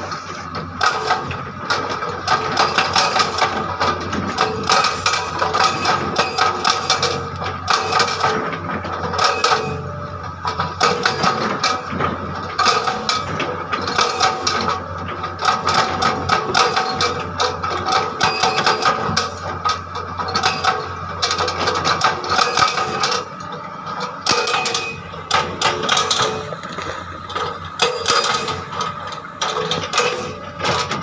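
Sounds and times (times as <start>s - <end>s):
excavator engine hum: 0.0s - 31.0s
hydraulic breaker hammering rock: 0.0s - 31.0s.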